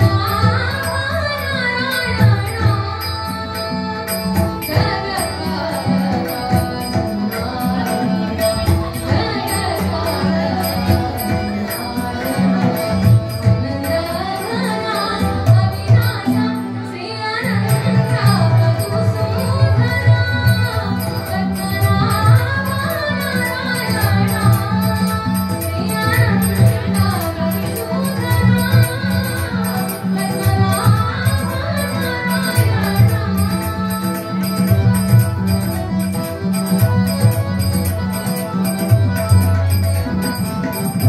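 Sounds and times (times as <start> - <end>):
harmonium: 0.0 - 41.0
tabla drum strokes: 0.0 - 41.0
woman singing devotional song: 0.0 - 41.0.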